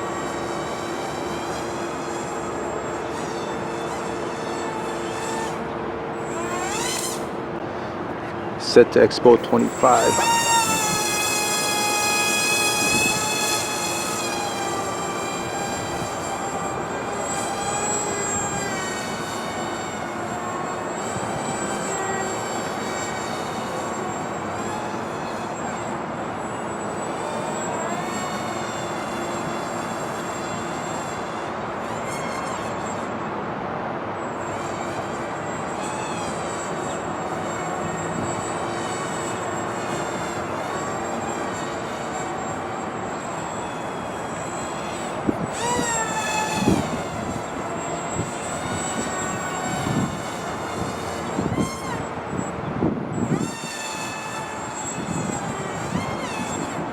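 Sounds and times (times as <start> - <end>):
electric motors whining: 0.0 - 56.9.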